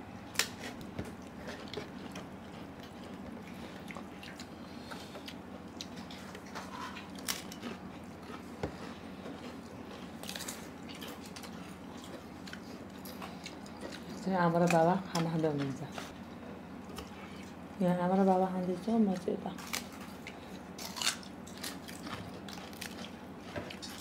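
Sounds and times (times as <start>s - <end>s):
steady low hum: 0.0s - 24.0s
biting and chewing: 0.2s - 17.7s, 19.1s - 24.0s.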